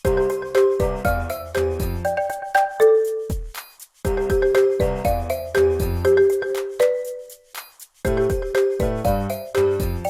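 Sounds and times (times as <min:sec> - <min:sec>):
upbeat music with bell-like notes: 0:00.0 - 0:10.0.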